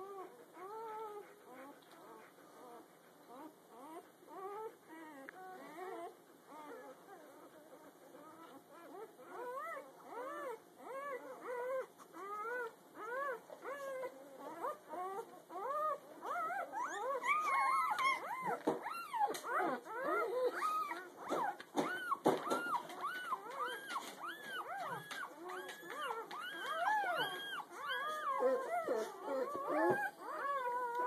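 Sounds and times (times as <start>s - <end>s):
newborn puppies squeaking and whimpering: 0.0s - 31.0s.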